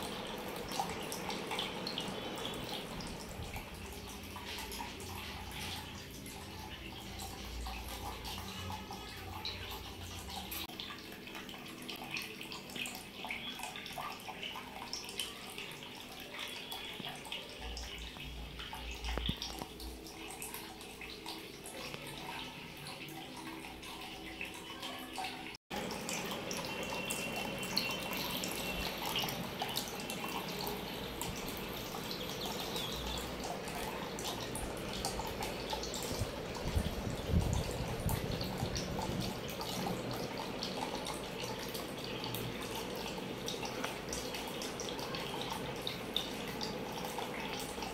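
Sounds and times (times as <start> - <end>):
water drips and bubbles: 0.0 - 47.9
water trickling and splashing: 0.0 - 47.9.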